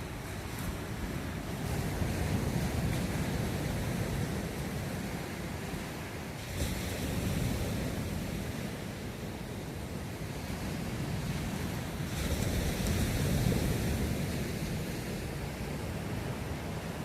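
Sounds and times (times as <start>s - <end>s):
surf breaking on a beach: 0.0s - 17.0s
wind rumble on microphone: 0.0s - 17.0s.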